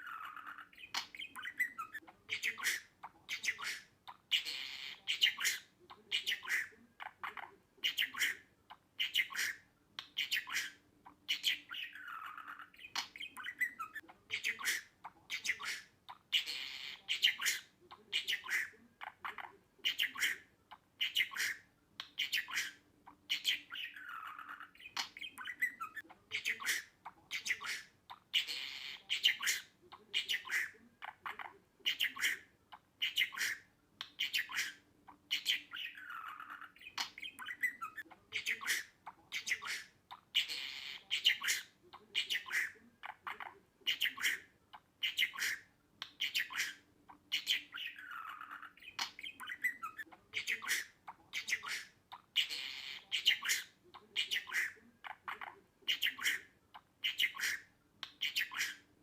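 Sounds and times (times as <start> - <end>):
budgerigar chattering and squawking: 0.0 - 58.9.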